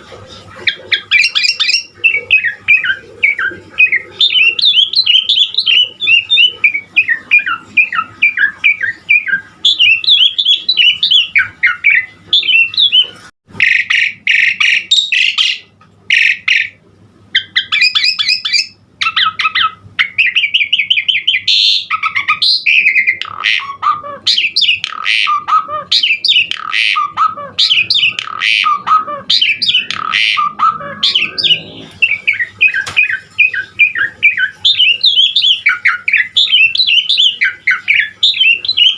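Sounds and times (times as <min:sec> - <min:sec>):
starling singing chattering song: 0:00.0 - 0:38.9.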